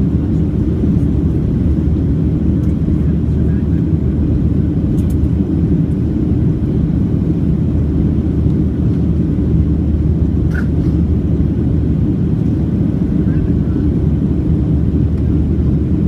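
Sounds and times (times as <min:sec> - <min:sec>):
jet engine rumble in cabin: 0:00.0 - 0:16.0.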